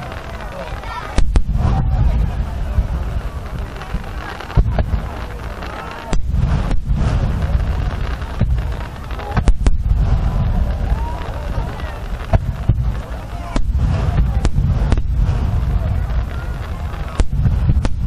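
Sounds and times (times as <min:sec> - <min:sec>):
deep rumble of booms: 0:00.0 - 0:18.0
firework shells bursting: 0:00.0 - 0:18.0
sharp bangs: 0:00.0 - 0:18.0.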